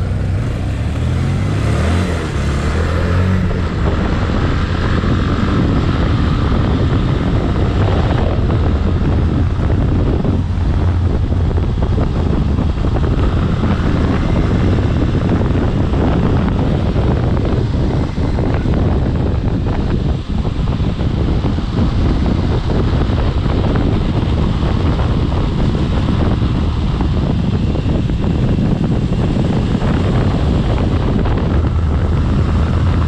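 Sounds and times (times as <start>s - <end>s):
vehicle engine and road noise: 0.0s - 33.0s
wind rumble on microphone: 0.0s - 33.0s.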